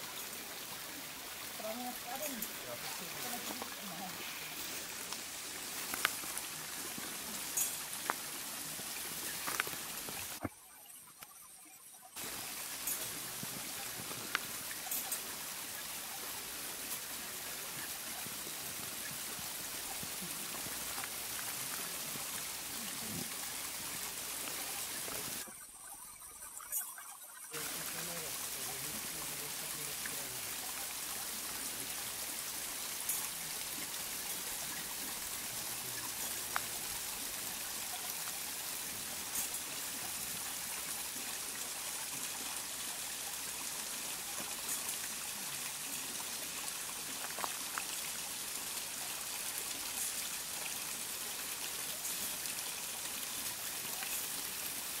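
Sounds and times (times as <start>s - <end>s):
stream water trickling: 0.0s - 55.0s.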